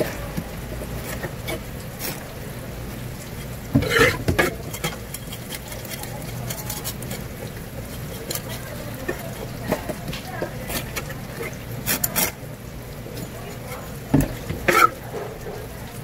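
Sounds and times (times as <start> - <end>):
knife scraping fish: 0.0 - 2.5, 3.2 - 12.4, 14.2 - 15.5.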